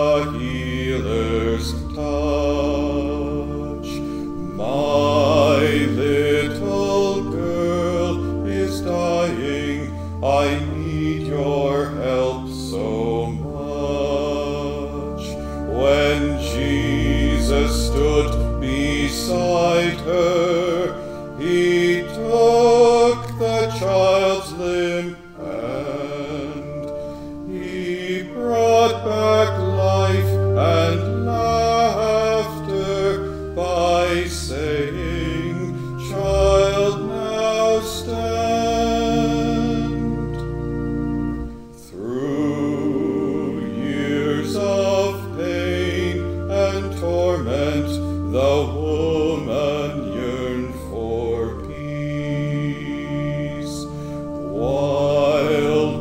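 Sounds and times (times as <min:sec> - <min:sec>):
man singing a hymn: 0:00.0 - 0:56.0
organ bass notes: 0:00.0 - 0:56.0.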